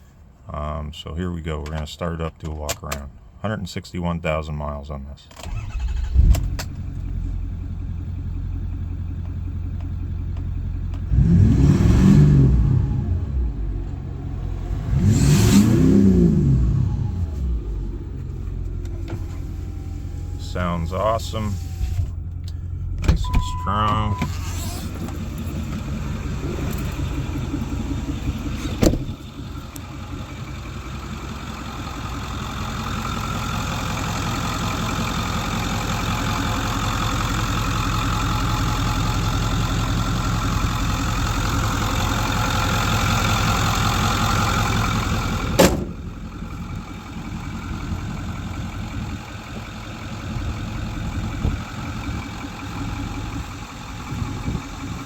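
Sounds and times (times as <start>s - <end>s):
diesel engine idling: 5.4s - 55.0s.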